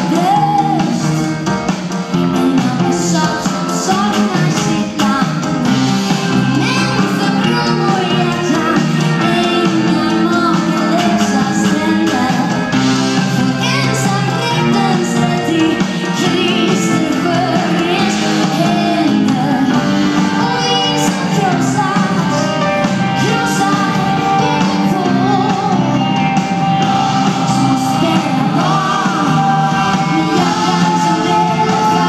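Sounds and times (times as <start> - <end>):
woman singing: 0.0 - 1.5, 2.2 - 32.0
drums: 0.0 - 32.0
guitar: 0.0 - 32.0
keyboards: 0.0 - 32.0
upright bass: 0.0 - 32.0.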